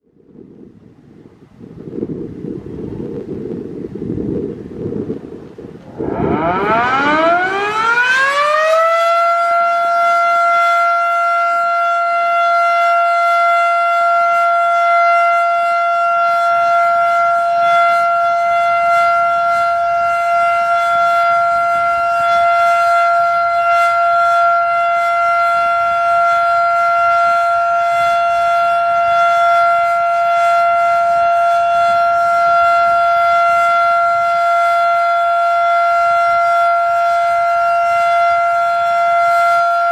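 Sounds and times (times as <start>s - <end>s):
warning siren winding up: 5.8s - 39.9s.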